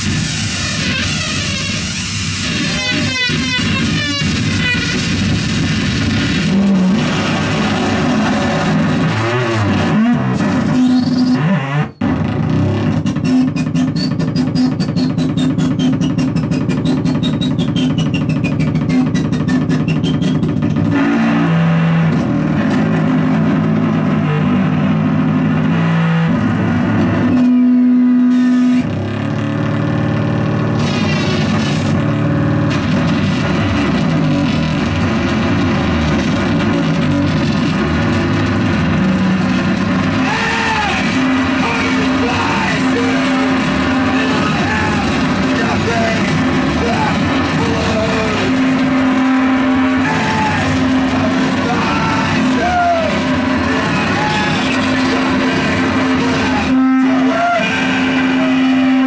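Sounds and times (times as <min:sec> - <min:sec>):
droning electronic music: 0:00.0 - 0:29.2, 0:30.4 - 0:59.0.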